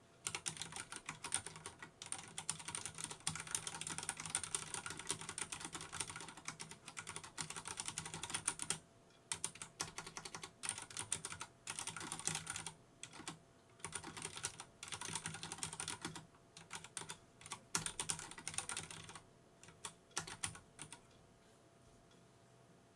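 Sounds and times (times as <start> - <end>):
typing on mechanical keyboard: 0.2 - 21.0.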